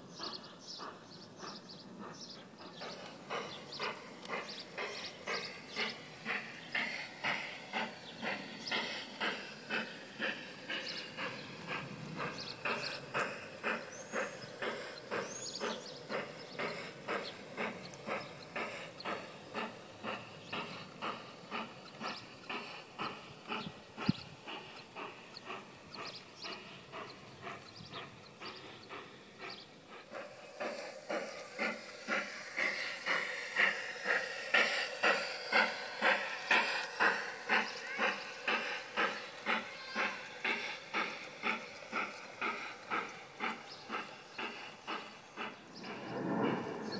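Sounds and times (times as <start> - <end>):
model steam locomotive chuffing: 0.0 - 46.9.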